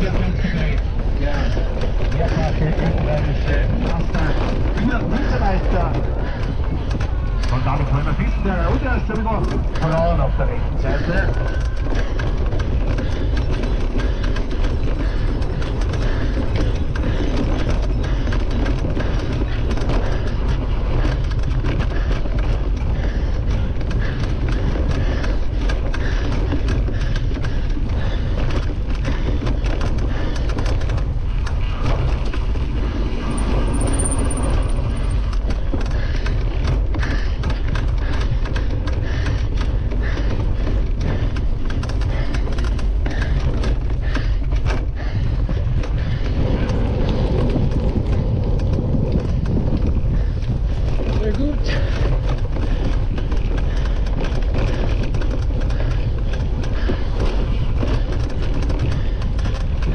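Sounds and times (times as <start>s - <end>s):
bike tyres rolling on turf: 0.0s - 59.9s
wind on camera: 0.0s - 59.9s
bike knocks and rattles: 10.8s - 59.9s.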